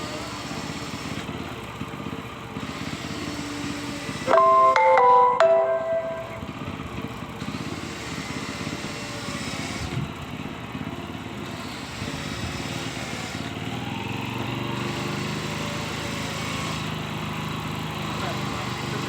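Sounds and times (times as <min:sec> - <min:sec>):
small engine running: 0:00.0 - 0:04.4, 0:06.4 - 0:19.0.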